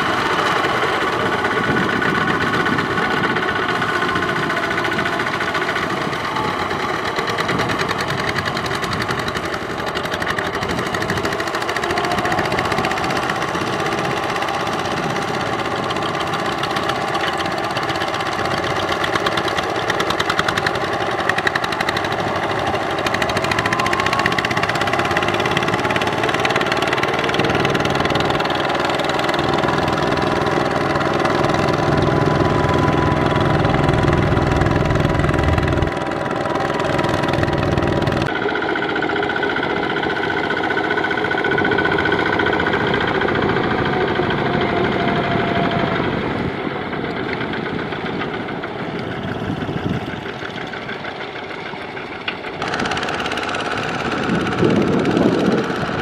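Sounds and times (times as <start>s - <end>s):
diesel tractor engines running: 0.0s - 56.0s.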